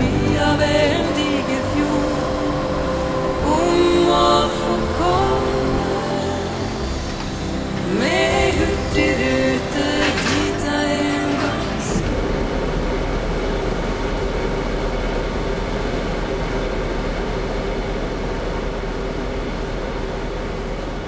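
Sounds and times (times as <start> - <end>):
low hum: 0.0 - 21.0
ship machinery rumble: 0.0 - 21.0.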